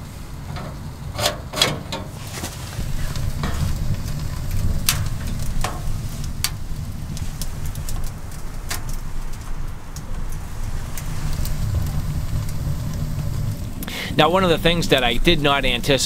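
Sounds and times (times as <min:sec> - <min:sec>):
low stove rumble: 0:00.0 - 0:16.0
wood fire crackling: 0:00.0 - 0:16.0.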